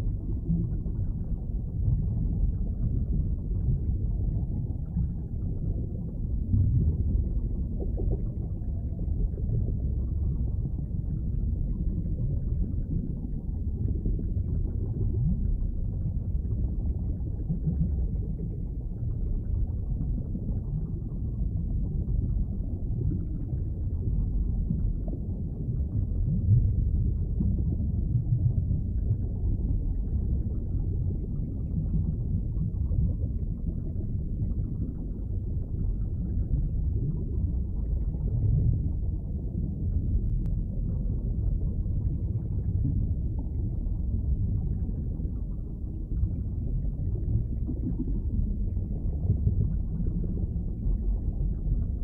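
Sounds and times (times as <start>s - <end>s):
underwater rumble and wash: 0.0s - 52.0s.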